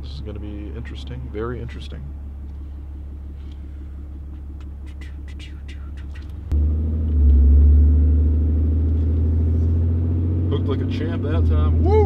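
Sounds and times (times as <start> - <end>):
truck engine rumble: 0.0 - 12.0.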